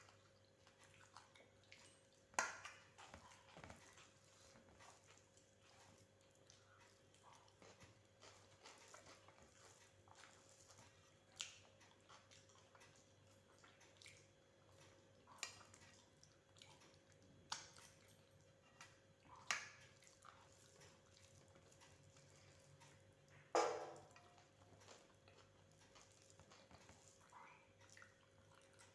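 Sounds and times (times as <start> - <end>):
faint chewing: 0.0 - 28.9.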